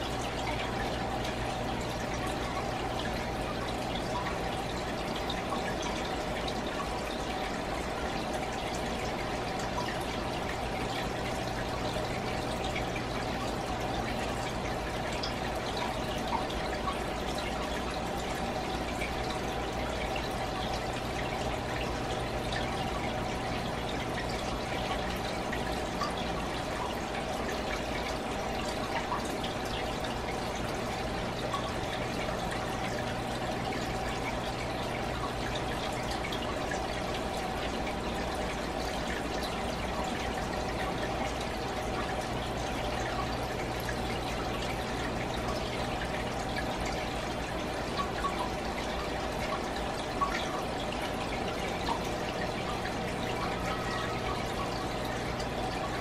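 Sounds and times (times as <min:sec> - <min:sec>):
aquarium pump hum: 0:00.0 - 0:56.0
aquarium water trickling: 0:00.0 - 0:56.0.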